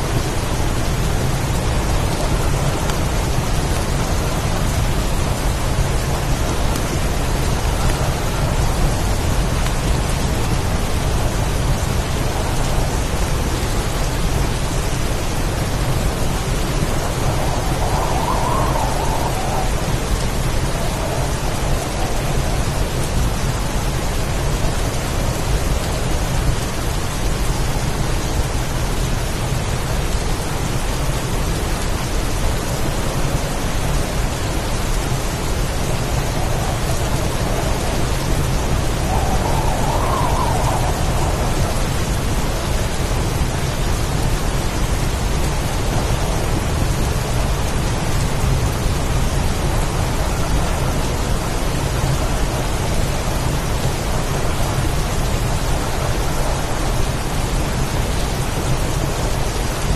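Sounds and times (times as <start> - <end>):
low rumble of thunder: 0.0 - 26.7, 32.5 - 59.2
heavy rain pouring: 0.0 - 59.9.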